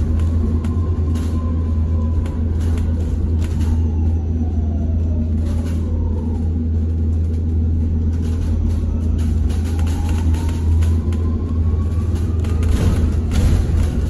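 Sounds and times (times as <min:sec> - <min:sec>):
bus road rumble: 0:00.0 - 0:14.0.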